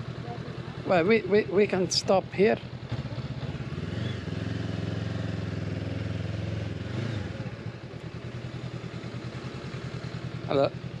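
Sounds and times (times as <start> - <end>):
motorcycle engine running and idling: 0.0 - 11.0.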